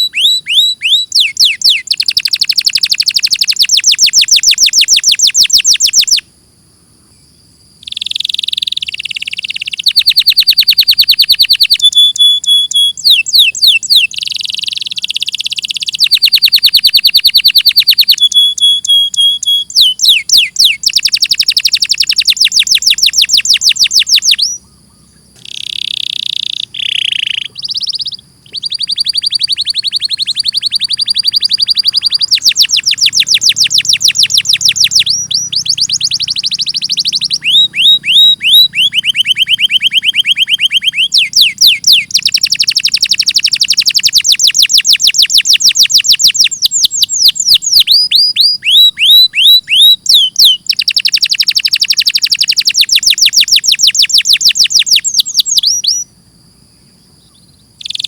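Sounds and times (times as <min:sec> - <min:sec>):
canary singing rolling trills: 0:00.0 - 0:06.3, 0:07.0 - 0:56.2, 0:56.8 - 0:58.0.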